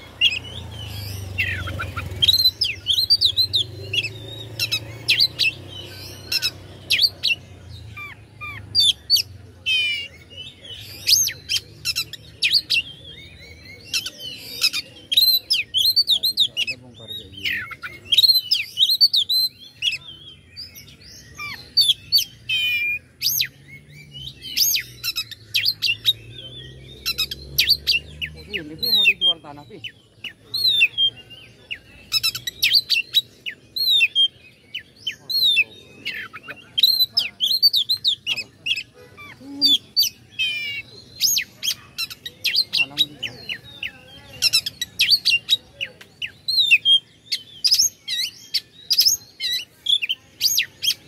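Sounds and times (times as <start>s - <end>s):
songbird whistling and chipping: 0.0s - 51.0s.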